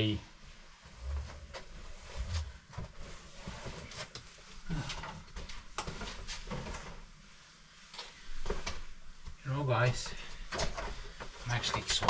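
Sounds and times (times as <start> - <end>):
rustling with light clicks: 0.7 - 12.0.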